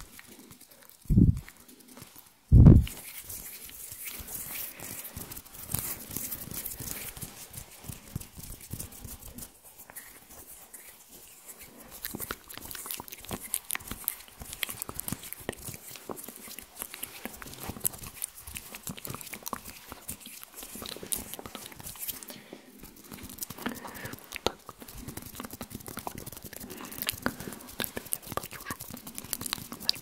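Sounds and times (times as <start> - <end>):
fingers rubbing and tapping microphone: 0.0 - 22.2, 22.9 - 30.0.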